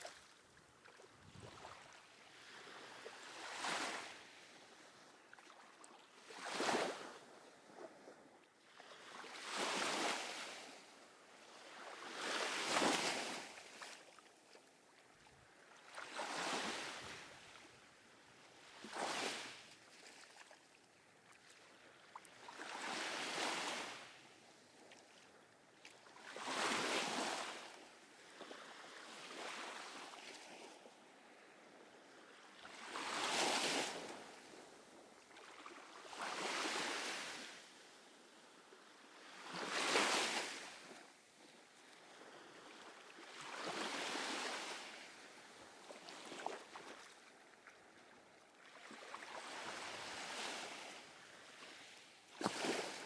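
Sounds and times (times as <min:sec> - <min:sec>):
small waves breaking on sand: 0:00.0 - 0:53.0.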